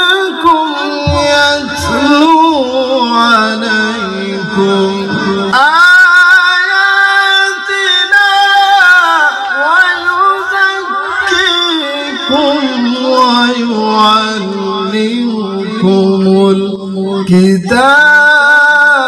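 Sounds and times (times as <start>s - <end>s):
man chanting recitation: 0.0s - 19.0s.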